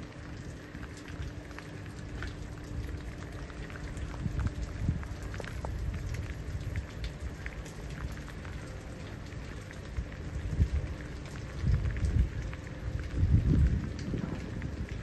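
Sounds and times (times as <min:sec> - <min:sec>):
steady rain falling: 0:00.0 - 0:15.0
low rumbling: 0:02.6 - 0:15.0.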